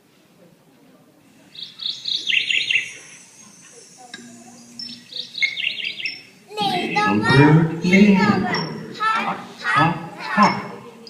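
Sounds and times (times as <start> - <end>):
small bird chirping: 1.4 - 11.0.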